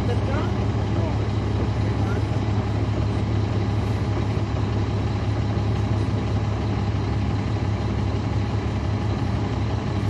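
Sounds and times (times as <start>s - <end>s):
bus diesel engine hum: 0.0s - 10.0s.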